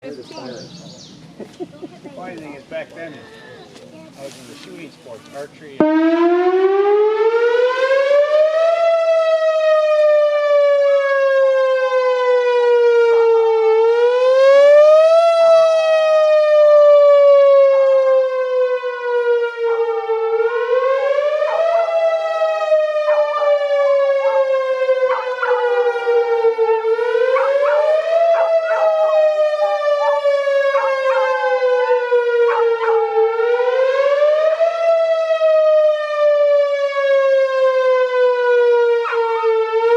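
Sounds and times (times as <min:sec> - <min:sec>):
warning siren wailing: 0:05.8 - 0:39.9.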